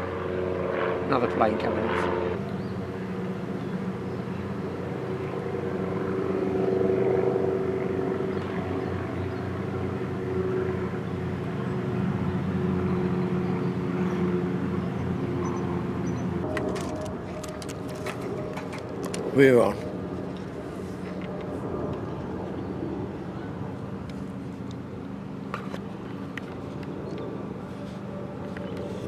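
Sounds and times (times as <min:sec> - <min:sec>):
airplane engine drone: 0:00.0 - 0:29.0.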